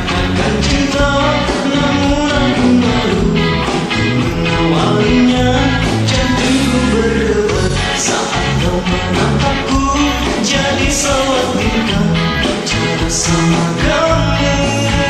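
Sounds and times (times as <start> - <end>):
bass: 0.0 - 15.0
drums: 0.0 - 15.0
melodic lead line: 0.0 - 15.0.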